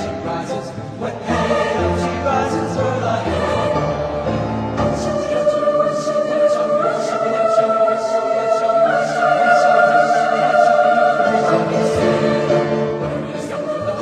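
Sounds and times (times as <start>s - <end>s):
music with long held notes: 0.0s - 14.0s.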